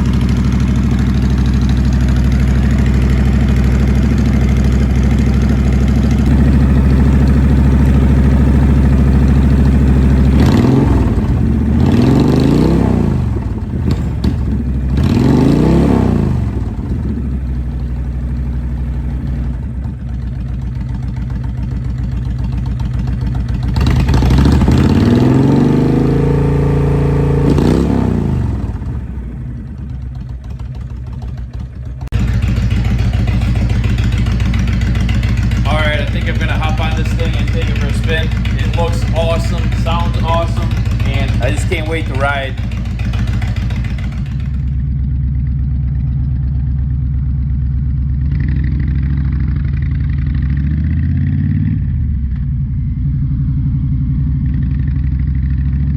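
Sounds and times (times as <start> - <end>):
motorcycle engine idling and revving: 0.0 - 55.9.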